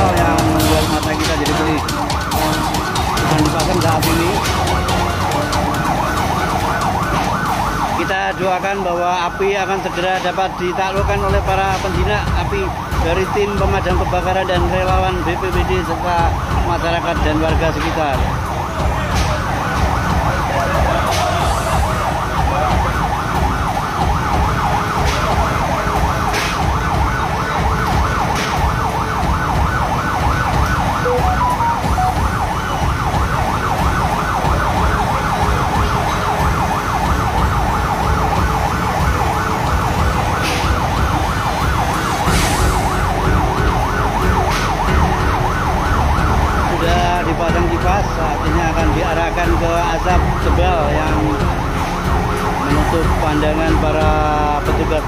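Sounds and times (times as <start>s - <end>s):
siren yelping: 0.0s - 55.0s.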